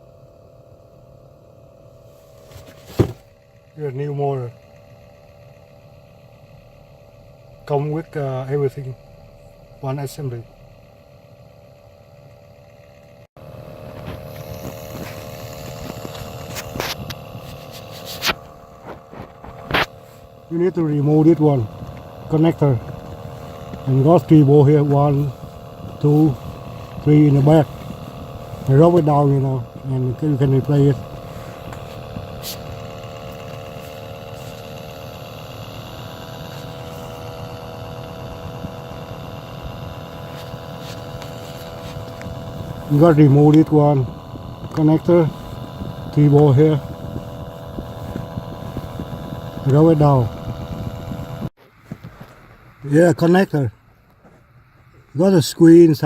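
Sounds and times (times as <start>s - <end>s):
heater blower fan humming: 0.0s - 56.0s.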